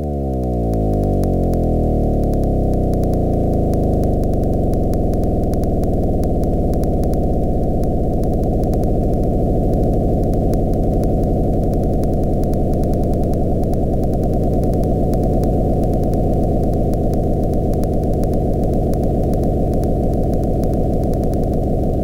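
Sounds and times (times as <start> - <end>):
faint quick ticking: 0.0 - 22.0
low electronic noise drone: 0.0 - 22.0.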